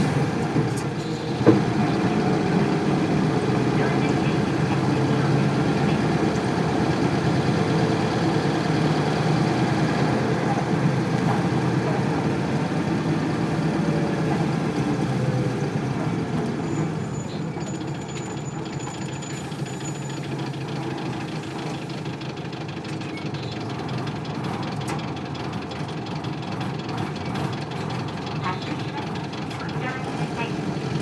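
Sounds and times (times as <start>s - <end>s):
diesel bus engine running: 0.0s - 31.0s.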